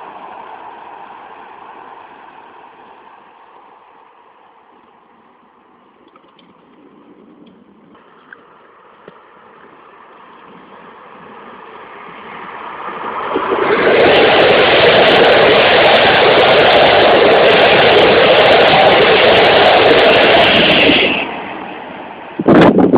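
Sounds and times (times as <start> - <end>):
train passing with loud rush: 0.0 - 22.9.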